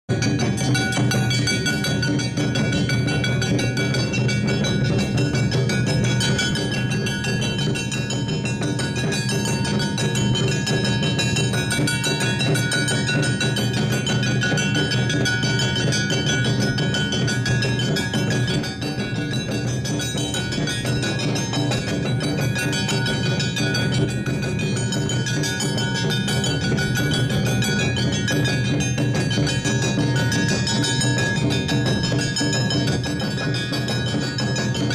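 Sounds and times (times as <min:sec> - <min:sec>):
drums beating: 0:00.1 - 0:34.9
hand gongs clanging: 0:00.1 - 0:34.9.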